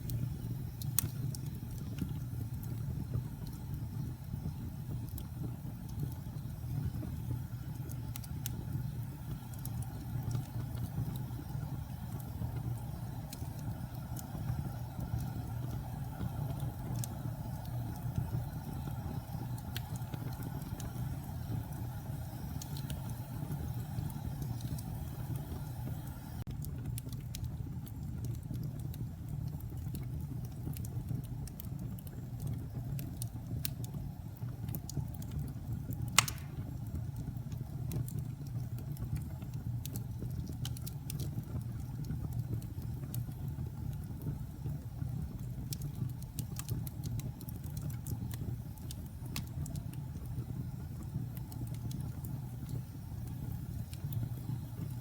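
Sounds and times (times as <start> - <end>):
fire crackles and pops: 0.0 - 55.0
low roar of flames: 0.0 - 55.0.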